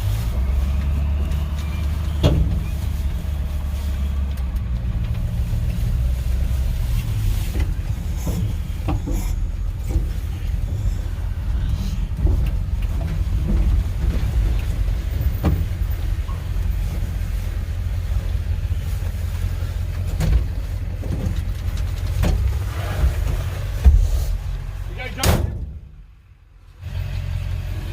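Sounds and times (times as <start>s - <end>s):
vehicle low rumble: 0.0s - 27.9s
knocks and rattles: 0.6s - 26.0s.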